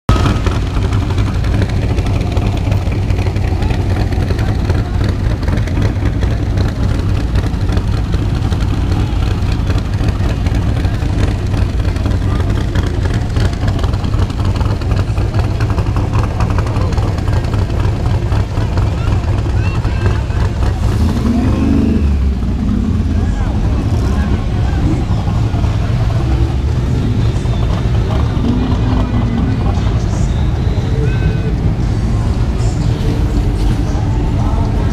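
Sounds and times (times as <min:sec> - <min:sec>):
car engine running steadily: 0:00.1 - 0:34.9.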